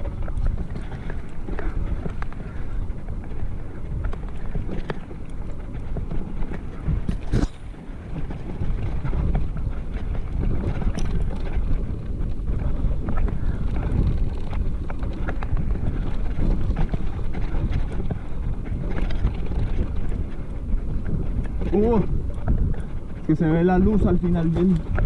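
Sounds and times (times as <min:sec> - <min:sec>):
bike rattling and clicking: 0:00.0 - 0:25.0
steady low rumble: 0:00.0 - 0:25.0
wind buffeting microphone: 0:00.0 - 0:25.0.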